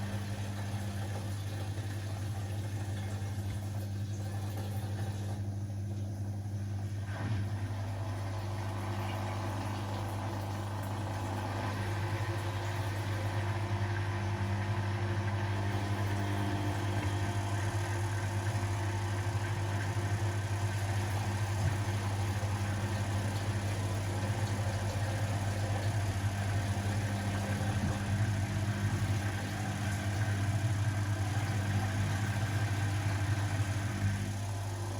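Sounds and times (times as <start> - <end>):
laundry machine motor hum: 0.0 - 34.9.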